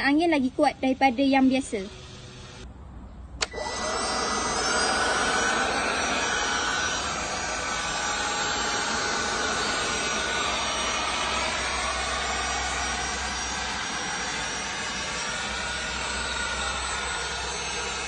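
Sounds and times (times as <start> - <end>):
leaf blower motor whining: 3.4 - 18.0.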